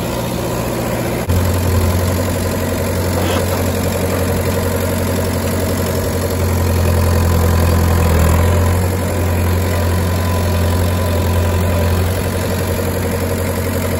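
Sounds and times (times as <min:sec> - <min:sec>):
tractor engine running: 0:00.0 - 0:13.9.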